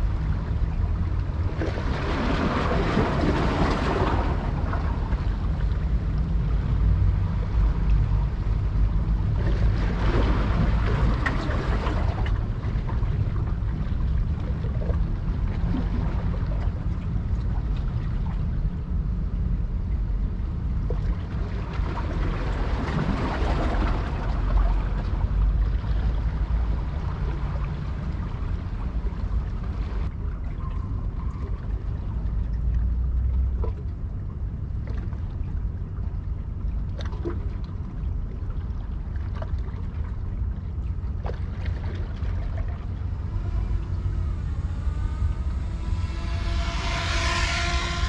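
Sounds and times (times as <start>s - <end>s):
large ship rumbling: 0.0s - 48.0s
water noise: 0.0s - 48.0s.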